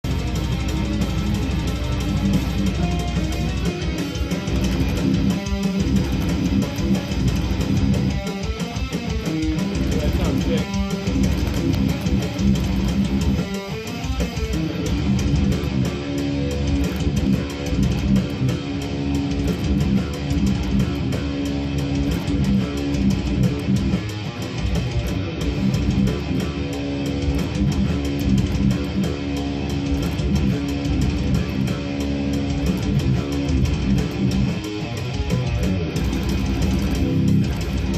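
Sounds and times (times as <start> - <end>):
bass guitar: 0.0 - 37.9
rock band music: 0.0 - 37.9
strummed electric guitar: 0.0 - 37.9.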